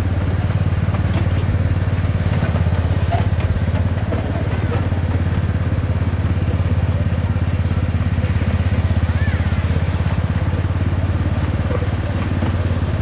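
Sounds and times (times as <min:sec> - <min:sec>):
locomotive engine running: 0:00.0 - 0:13.0.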